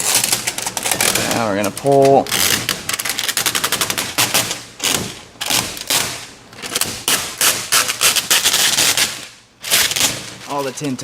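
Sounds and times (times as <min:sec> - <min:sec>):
tint film peeling crackling: 0:00.0 - 0:11.0.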